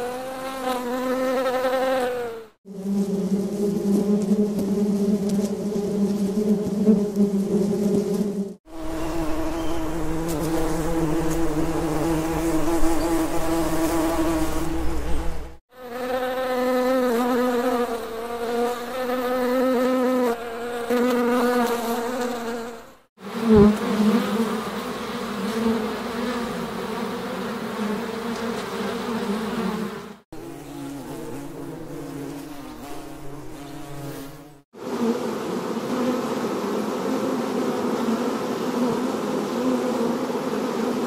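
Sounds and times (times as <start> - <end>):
bee buzzing: 0.0 - 41.0.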